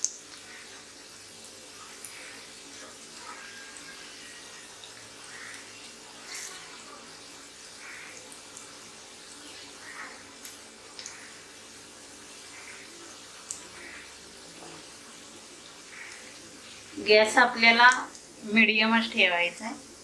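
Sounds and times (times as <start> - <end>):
batter deep-frying in hot oil: 0.0 - 20.0.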